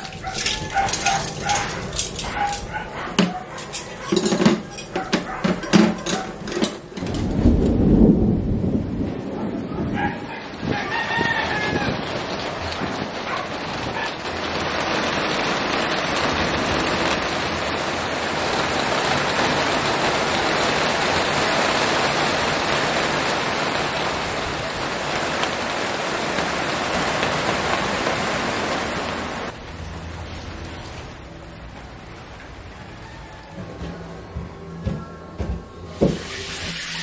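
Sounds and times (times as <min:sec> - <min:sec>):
steady rain falling: 0:00.0 - 0:34.8, 0:36.0 - 0:37.0.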